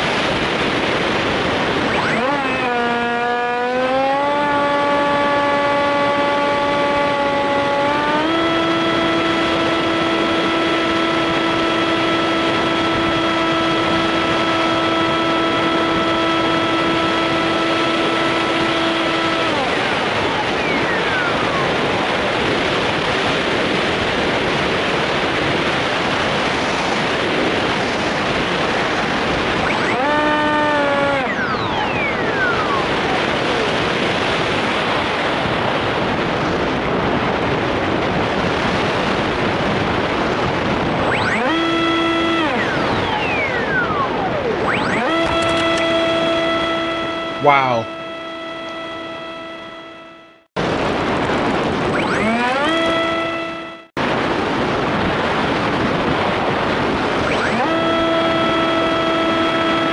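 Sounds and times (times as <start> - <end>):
model plane motor and propeller drone: 0.0 - 35.1, 41.1 - 50.3, 52.2 - 53.9, 57.1 - 59.9
wind rush: 0.0 - 49.3, 50.5 - 59.9.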